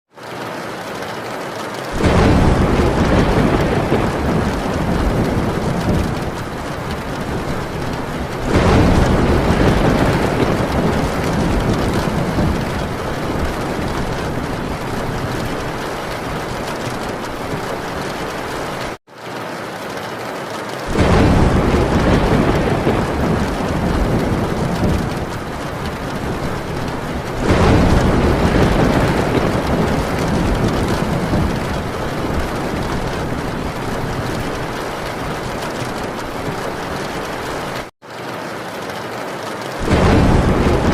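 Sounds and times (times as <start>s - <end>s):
heavy rain on a tin roof: 0.1s - 40.9s
thunder rumbling: 1.8s - 19.0s, 20.8s - 37.9s, 39.8s - 40.9s.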